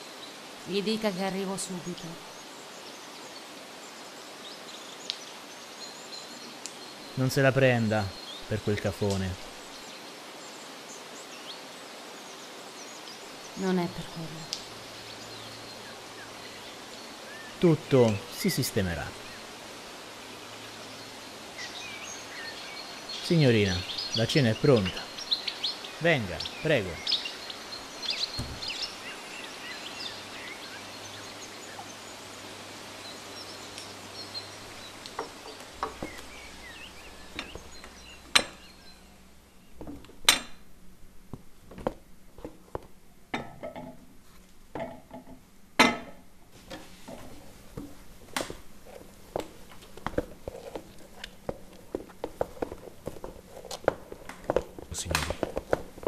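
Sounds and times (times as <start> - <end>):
birds chirping: 0.0 - 40.8, 46.8 - 56.0.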